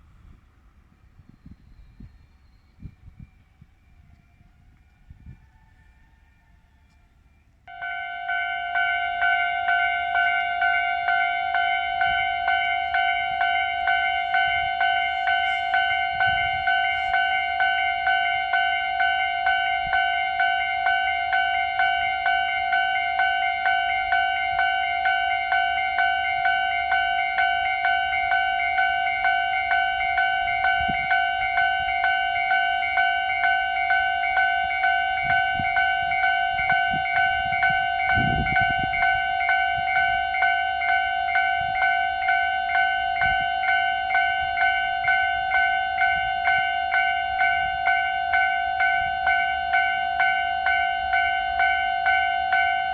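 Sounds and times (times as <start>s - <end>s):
level crossing warning bell: 1.4s - 52.9s.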